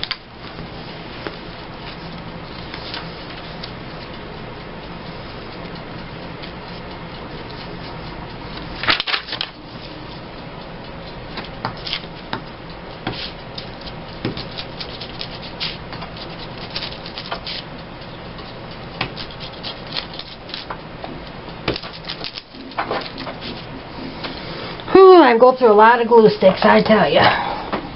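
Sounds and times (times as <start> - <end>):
steady background hum: 0.0 - 27.9.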